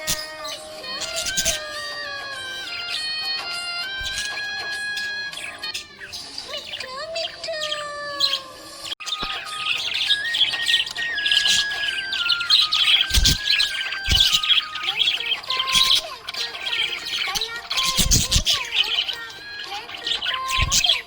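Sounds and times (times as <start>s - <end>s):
budgies chirping and warbling: 0.0s - 21.0s.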